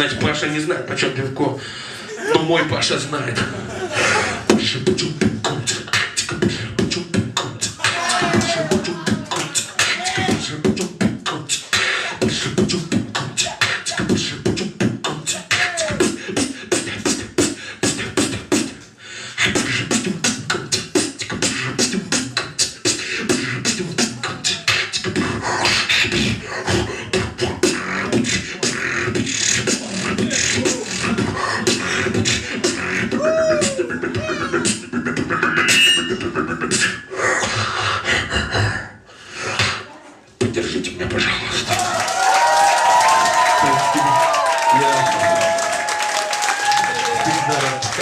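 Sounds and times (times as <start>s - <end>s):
beatboxing: 0.0s - 48.0s.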